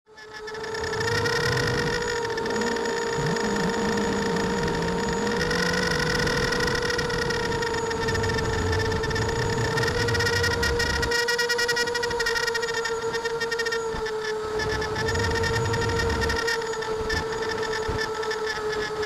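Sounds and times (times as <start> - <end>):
drone motors and propellers whining: 0.1 - 19.0.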